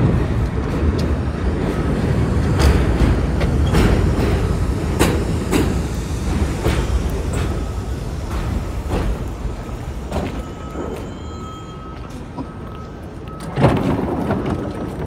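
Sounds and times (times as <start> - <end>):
subway train rumble: 0.0 - 15.0
wheels clicking over rail joints: 0.0 - 15.0.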